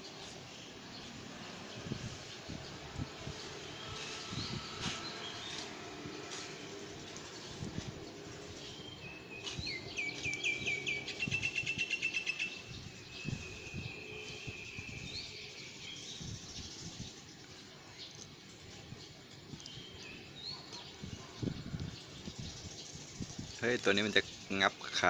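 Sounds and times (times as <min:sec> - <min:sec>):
bird singing: 0:03.4 - 0:25.0.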